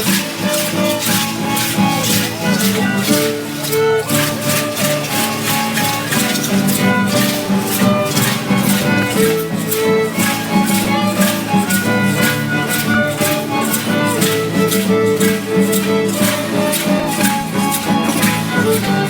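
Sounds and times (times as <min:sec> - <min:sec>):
guitar: 0:00.0 - 0:19.0
rattles shaken: 0:00.0 - 0:19.0
violin melody: 0:00.0 - 0:19.0.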